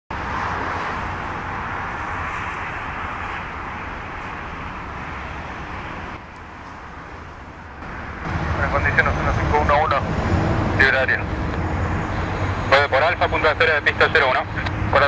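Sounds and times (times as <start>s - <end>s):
jet engines taxiing: 0.1s - 15.0s.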